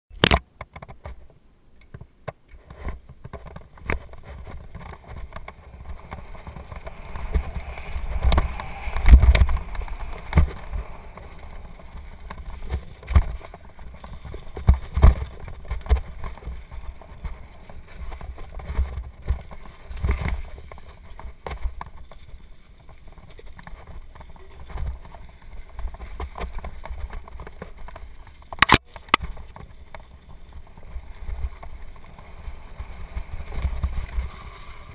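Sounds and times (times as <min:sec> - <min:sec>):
bicycle knocking and rattling: 0:00.2 - 0:34.9
wind rumbling on microphone: 0:00.9 - 0:34.9.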